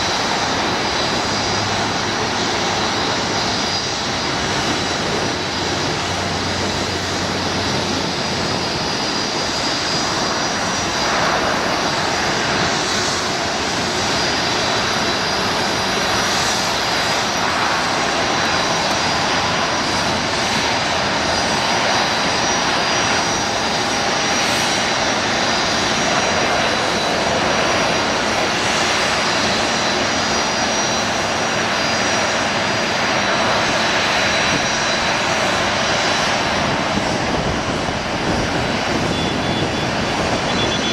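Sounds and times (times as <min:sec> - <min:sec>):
high engine whine: 0:00.0 - 0:40.9
jet airliner landing: 0:00.0 - 0:40.9.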